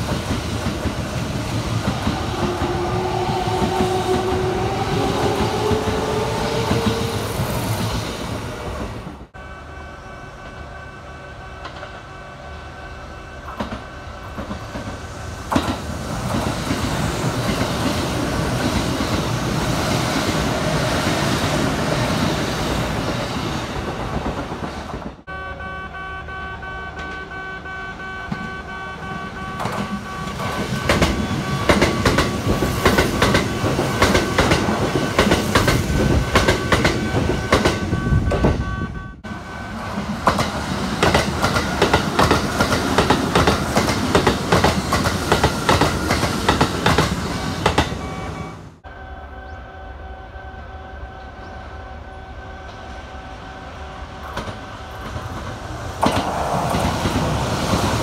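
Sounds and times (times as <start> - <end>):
passing train steady tone: 0.0 - 58.0.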